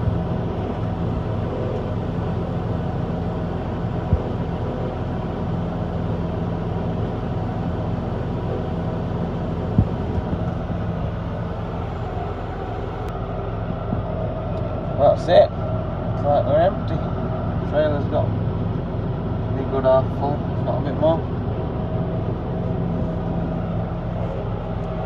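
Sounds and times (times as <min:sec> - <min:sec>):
tractor and combine engines: 0:00.0 - 0:25.0.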